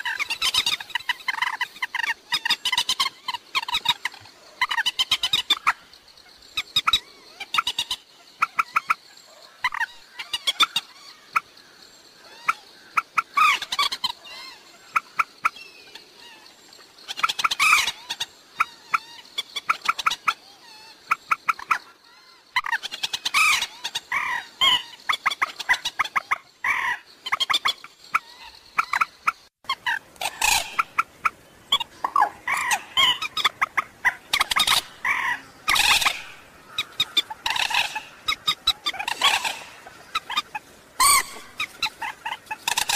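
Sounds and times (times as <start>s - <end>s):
moorhen clucking calls: 0.0s - 42.9s.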